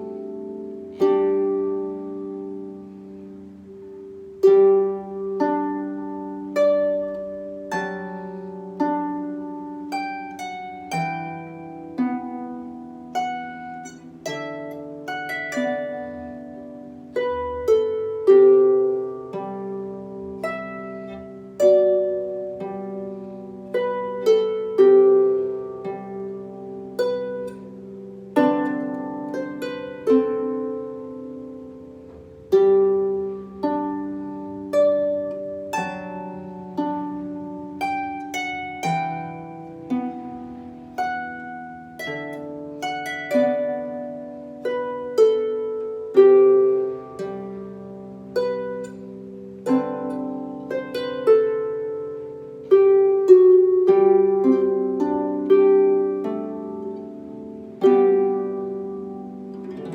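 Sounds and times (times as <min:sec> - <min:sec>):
solo harp playing: 0:00.0 - 0:59.9.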